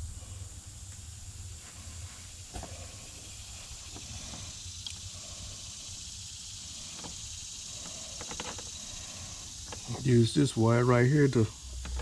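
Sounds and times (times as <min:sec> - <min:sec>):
low outdoor rumble: 0:00.0 - 0:12.0
steady high hiss: 0:00.0 - 0:12.0.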